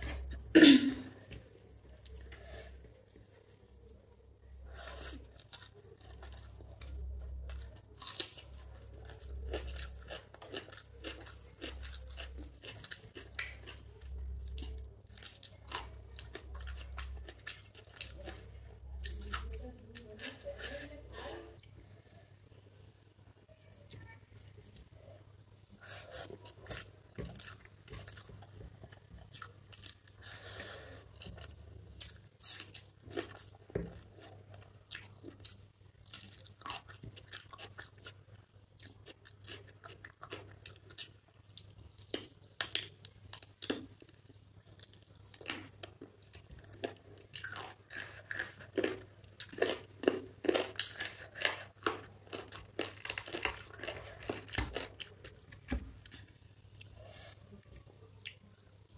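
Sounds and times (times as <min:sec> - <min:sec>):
close chewing with mouth smacks: 0:04.8 - 0:20.9, 0:25.7 - 0:30.4, 0:31.0 - 0:58.9.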